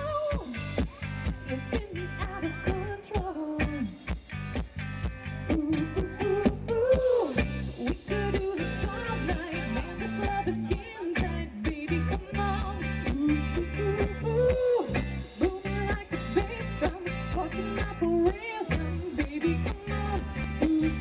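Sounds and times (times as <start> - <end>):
bass: 0.0 - 21.0
electric guitar: 0.0 - 21.0.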